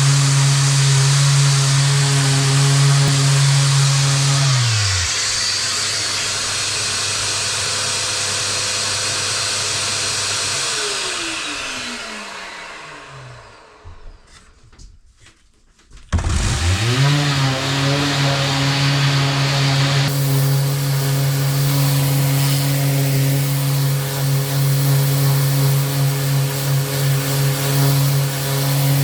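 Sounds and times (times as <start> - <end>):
power tool motor running: 0.0 - 14.5, 16.2 - 29.0.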